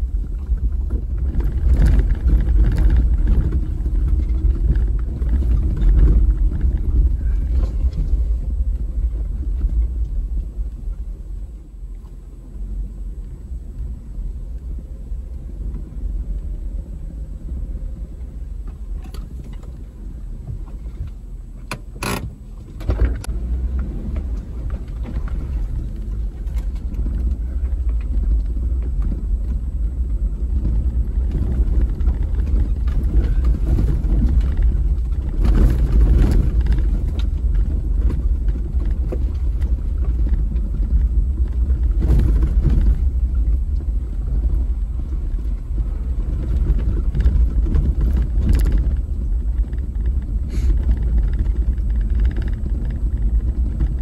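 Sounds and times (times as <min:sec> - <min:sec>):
engine and drivetrain rumble: 0:00.0 - 0:54.0
vehicle body rattling over bumps: 0:00.0 - 0:54.0.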